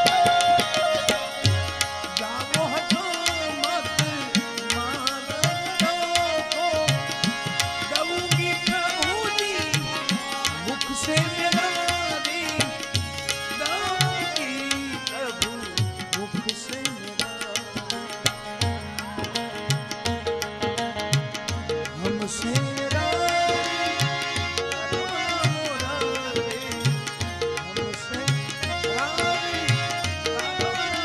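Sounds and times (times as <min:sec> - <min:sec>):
tabla playing: 0:00.0 - 0:31.0.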